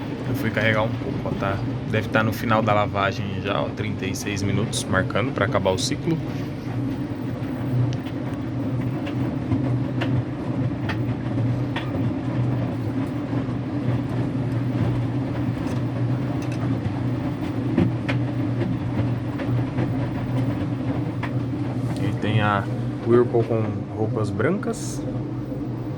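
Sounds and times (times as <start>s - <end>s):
washing machine hum: 0.0s - 25.9s.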